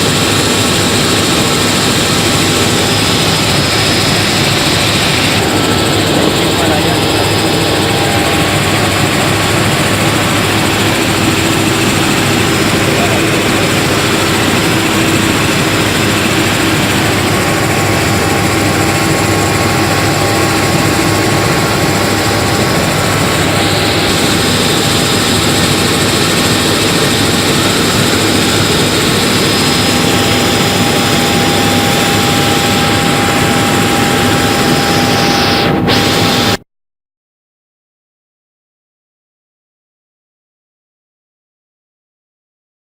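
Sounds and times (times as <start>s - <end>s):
helicopter engine and rotors droning: 0.0s - 36.6s.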